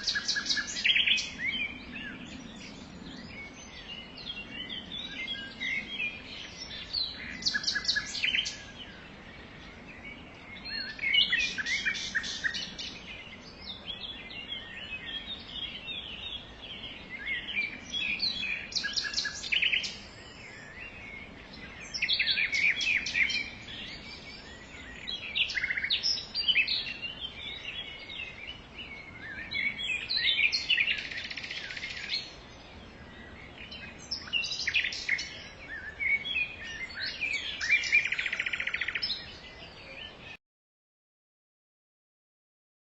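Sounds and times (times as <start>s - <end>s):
songbirds chirping and singing: 0.0s - 40.4s.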